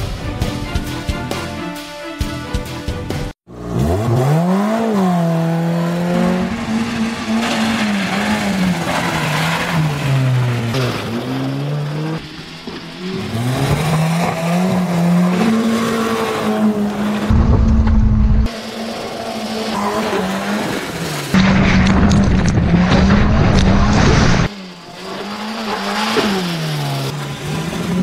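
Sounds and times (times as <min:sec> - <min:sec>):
car engine revving: 0:03.5 - 0:28.0
tyres rushing and spraying mud: 0:03.8 - 0:28.0.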